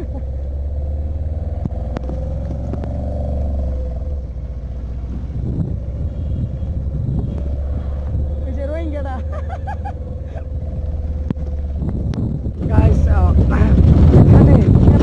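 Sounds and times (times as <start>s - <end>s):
steady whine: 0.0s - 15.0s
truck engine and road noise: 0.0s - 15.0s.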